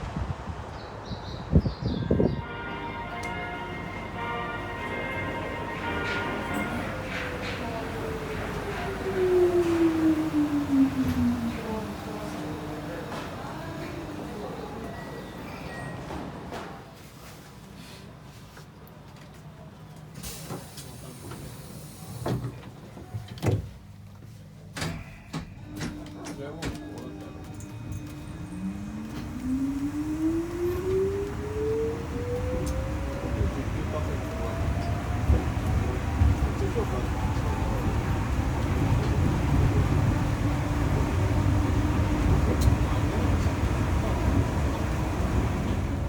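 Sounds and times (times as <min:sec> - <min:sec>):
train interior rumble: 0:00.0 - 0:46.0.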